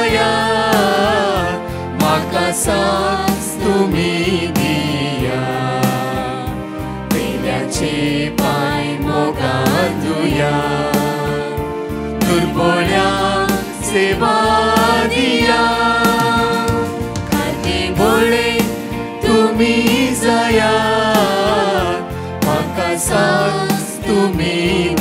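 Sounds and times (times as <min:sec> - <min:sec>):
hymn singing with instruments: 0:00.0 - 0:25.0.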